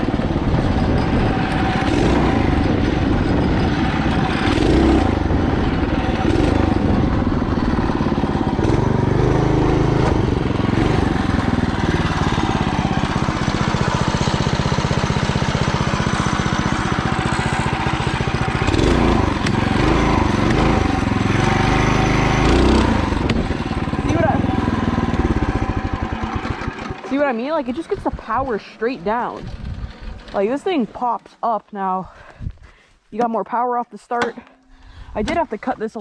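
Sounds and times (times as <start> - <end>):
small gas engine revving: 0.0 - 30.8.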